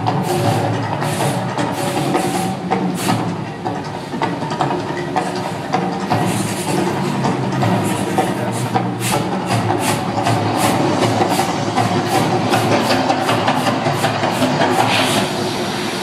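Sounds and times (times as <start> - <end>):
percussion music over loudspeakers: 0.0 - 15.2.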